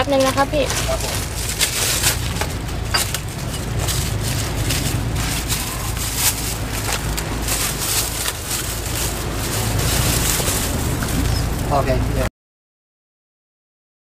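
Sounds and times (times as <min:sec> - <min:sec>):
plastic bags crinkling: 0:00.0 - 0:11.7
low rumble: 0:00.0 - 0:12.3.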